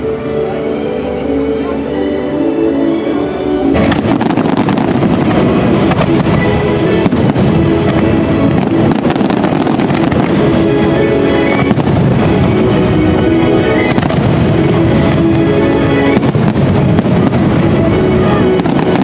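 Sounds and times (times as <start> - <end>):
loud show music: 0.0 - 19.0
fireworks banging and crackling: 3.7 - 19.0.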